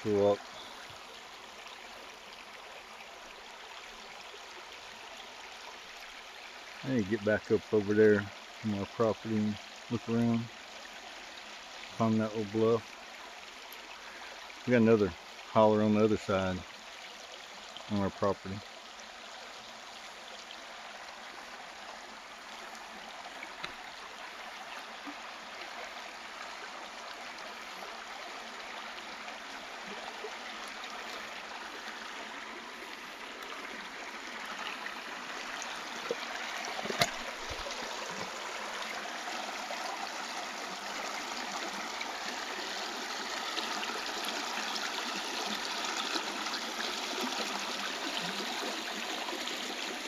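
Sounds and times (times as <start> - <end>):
creek water flowing: 0.0 - 50.0.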